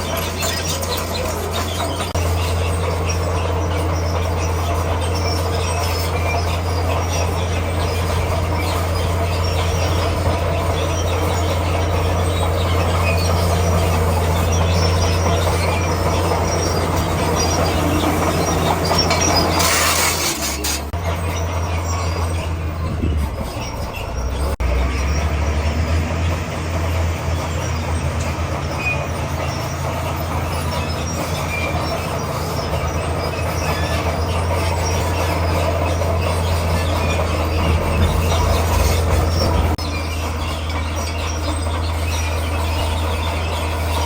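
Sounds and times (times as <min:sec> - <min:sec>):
bulldozer diesel engine: 0:00.0 - 0:44.0
steel tracks clanking and squealing: 0:00.0 - 0:44.0.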